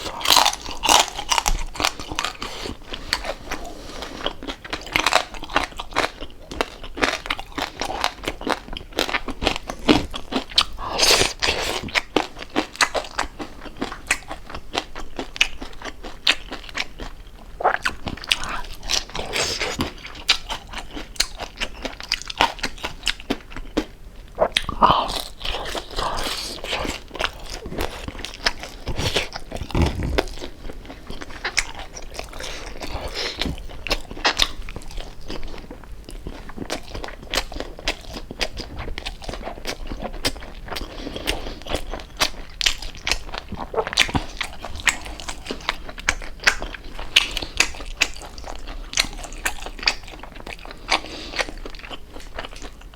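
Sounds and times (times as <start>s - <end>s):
crunching and chewing crispy food: 0.0s - 52.9s.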